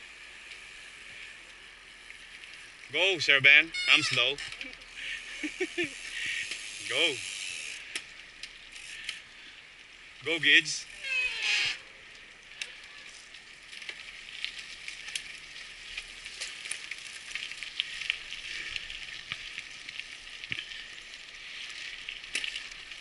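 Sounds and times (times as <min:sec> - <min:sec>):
bike tyres rolling on gravel: 0:00.0 - 0:23.0
stones and drivetrain clicking: 0:00.4 - 0:11.0, 0:11.7 - 0:23.0.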